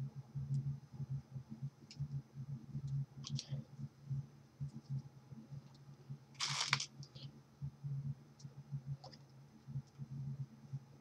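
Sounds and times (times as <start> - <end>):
low pulsing hum: 0.0 - 11.0.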